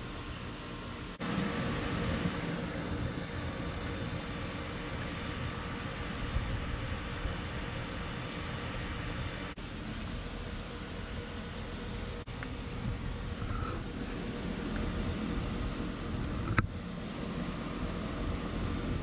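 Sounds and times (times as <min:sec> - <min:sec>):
outdoor background noise with rumble: 0:00.0 - 0:19.0.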